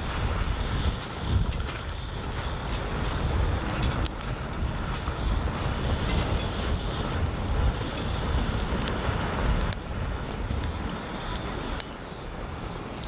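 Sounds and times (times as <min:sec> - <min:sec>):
firewood crackling and popping: 0:00.0 - 0:13.0
wind buffeting microphone: 0:00.0 - 0:13.0.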